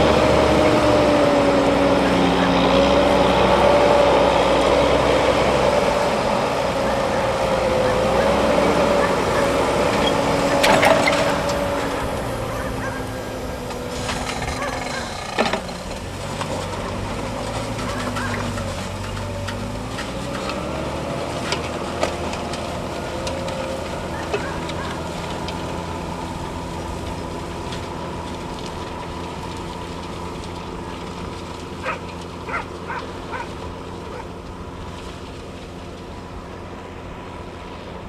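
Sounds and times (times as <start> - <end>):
tractor engine under load: 0.0 - 38.0.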